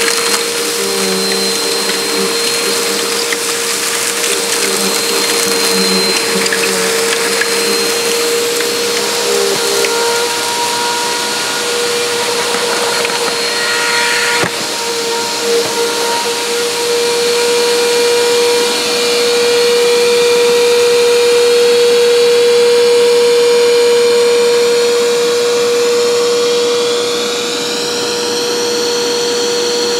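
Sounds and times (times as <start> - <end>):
vacuum cleaner motor whine: 0.0 - 29.9.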